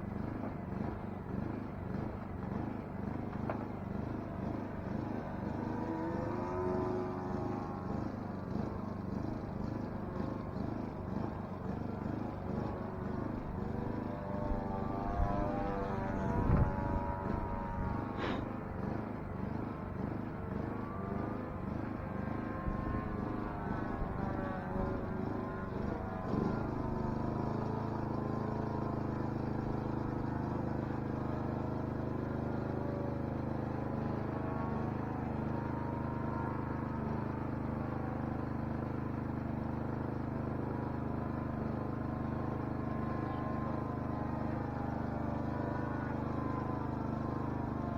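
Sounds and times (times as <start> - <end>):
model aircraft engine wavering: 0.0 - 47.9.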